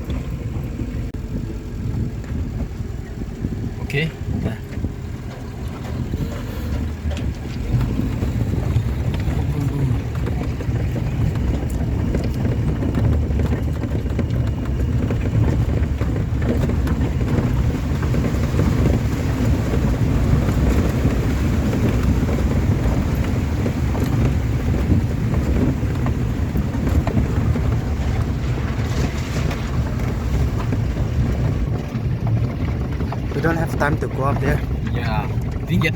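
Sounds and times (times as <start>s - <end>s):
vehicle engine and road noise: 0.0s - 35.9s
wind buffeting microphone: 0.0s - 35.9s.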